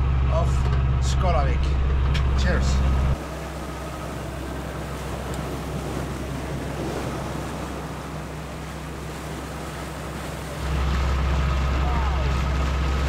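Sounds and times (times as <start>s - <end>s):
low steady hum: 0.0s - 13.0s
sea waves breaking: 1.7s - 13.0s.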